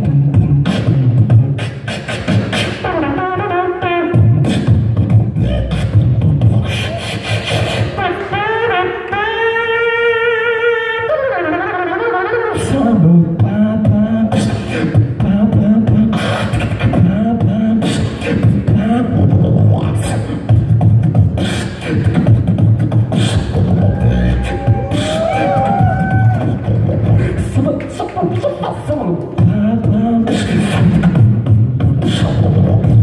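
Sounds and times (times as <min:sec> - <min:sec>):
person beatboxing: 0:00.0 - 0:33.0.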